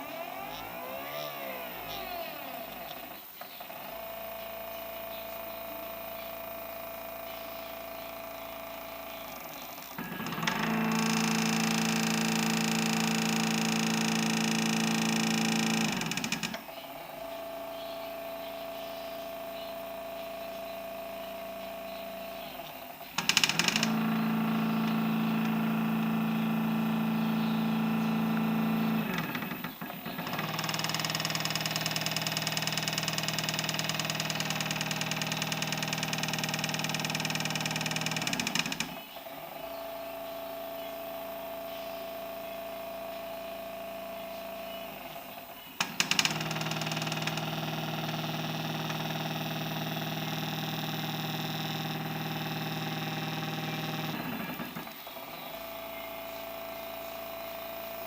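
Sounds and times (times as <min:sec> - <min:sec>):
stepper motors whining: 0:00.0 - 0:58.0.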